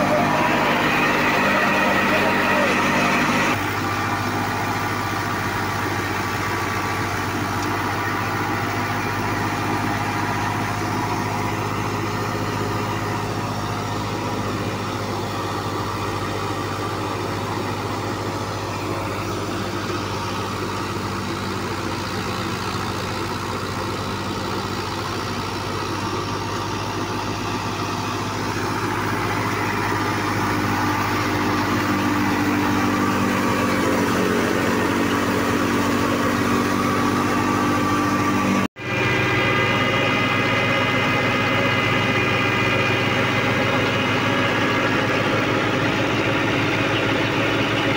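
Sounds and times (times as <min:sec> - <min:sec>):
thresher running: 0:00.0 - 0:47.9
tractor diesel engine running: 0:00.0 - 0:47.9.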